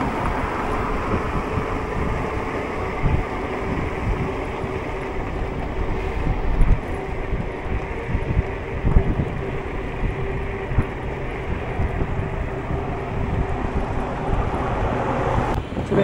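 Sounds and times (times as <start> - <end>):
road and tyre noise: 0.0 - 16.0
wind buffeting microphone: 0.0 - 16.0.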